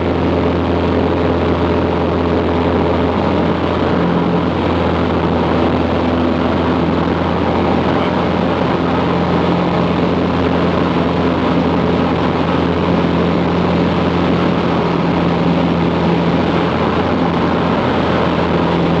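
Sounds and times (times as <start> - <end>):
light airplane engine droning: 0.0 - 19.0.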